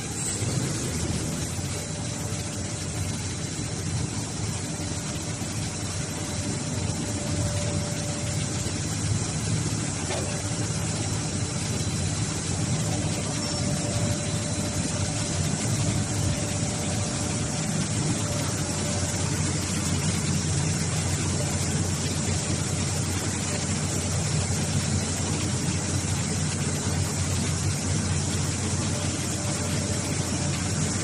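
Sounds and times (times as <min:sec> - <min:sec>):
hydraulic pump motor humming: 0:00.0 - 0:31.0.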